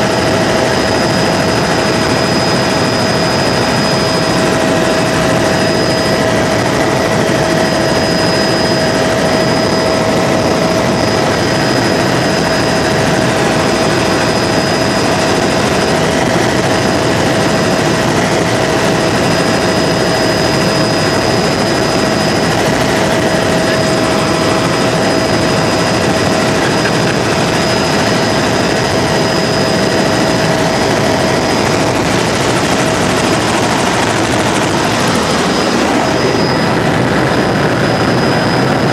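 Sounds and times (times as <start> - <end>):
helicopter engine and rotor rushing: 0.0 - 38.9
steady whining tones: 0.0 - 38.9.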